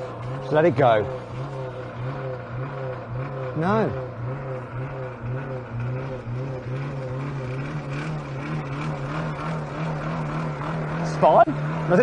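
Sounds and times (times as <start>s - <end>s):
car engine labouring at full throttle: 0.0s - 12.0s.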